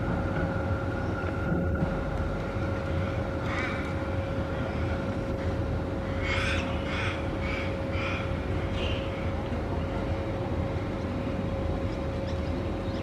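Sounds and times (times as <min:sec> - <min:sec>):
low urban rumble: 0:00.0 - 0:13.0
machine hum: 0:00.0 - 0:13.0.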